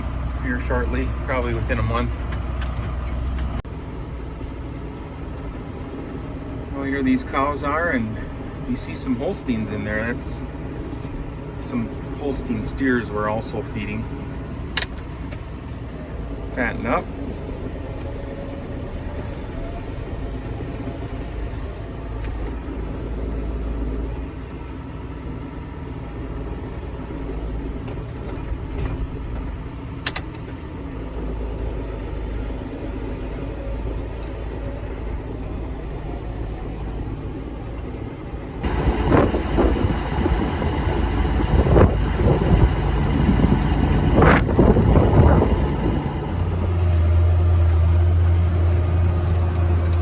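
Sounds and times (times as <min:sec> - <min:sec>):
low rumble of wind: 0:00.0 - 0:50.0
tractor engine running: 0:00.0 - 0:50.0.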